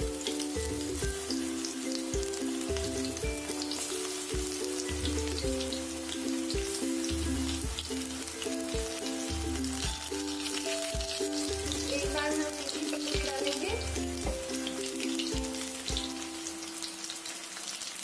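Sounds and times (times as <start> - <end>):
background music with bass: 0.0 - 16.5
batter sizzling in hot oil: 0.0 - 18.0.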